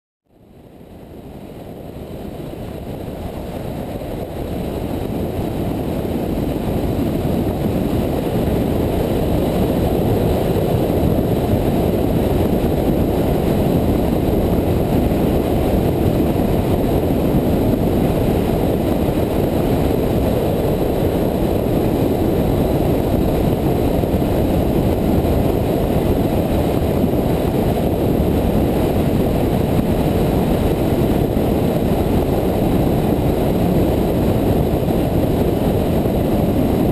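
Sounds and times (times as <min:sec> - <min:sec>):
wind rushing over microphone: 0:00.4 - 0:36.9.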